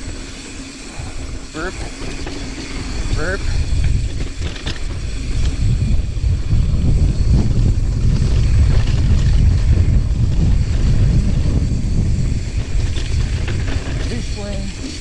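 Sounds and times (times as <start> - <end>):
bike tyre noise: 0.0 - 15.0
wind buffeting microphone: 0.0 - 15.0.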